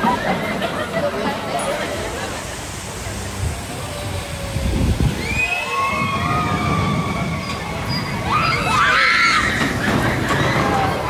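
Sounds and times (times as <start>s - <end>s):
roller coaster rumbling on track: 0.0s - 11.0s.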